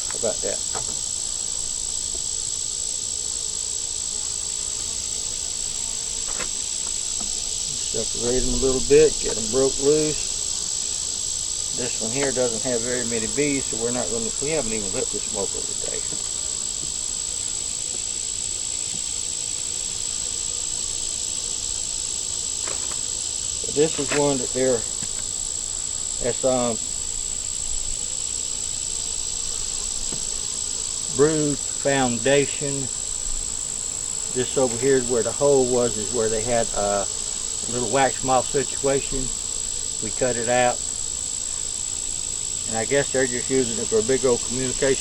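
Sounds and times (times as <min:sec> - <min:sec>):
high-pitched insect trilling: 0:00.0 - 0:45.0
honey bees humming: 0:00.0 - 0:45.0.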